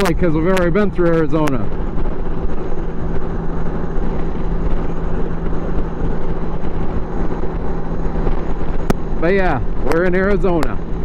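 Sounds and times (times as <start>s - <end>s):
motorcycle engine hum: 0.0s - 11.0s
wind rush: 0.0s - 11.0s.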